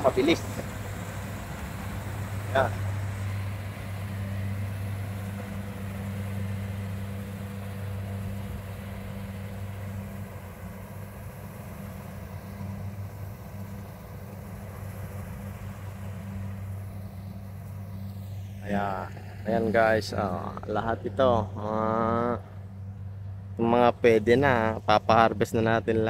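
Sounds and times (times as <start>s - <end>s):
combine harvester engine droning: 0.0s - 26.0s.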